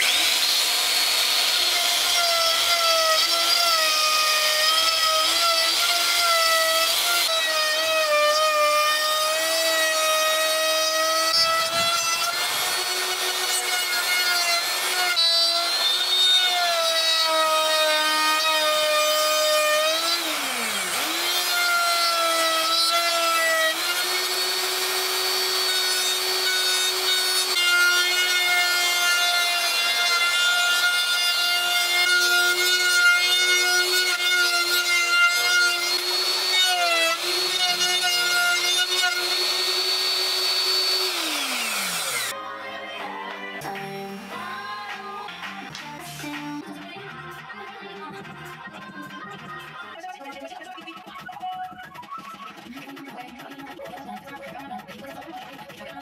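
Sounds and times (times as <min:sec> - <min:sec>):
router cutting wood: 0:00.0 - 0:47.2.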